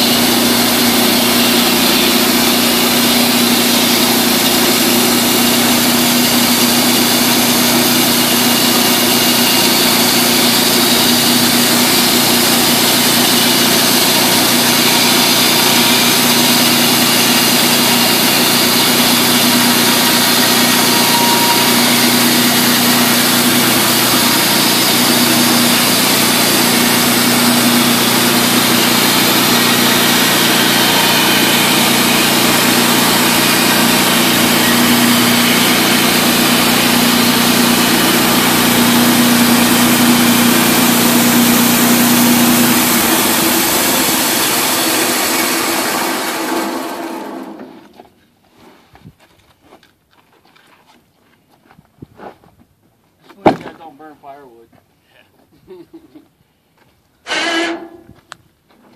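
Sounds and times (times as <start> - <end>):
engine running steadily: 0.0 - 48.1.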